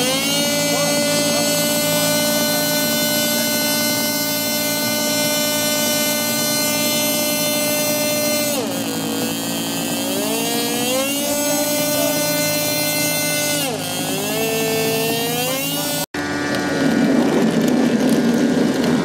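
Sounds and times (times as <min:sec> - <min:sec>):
model airplane engine running: 0:00.0 - 0:19.0.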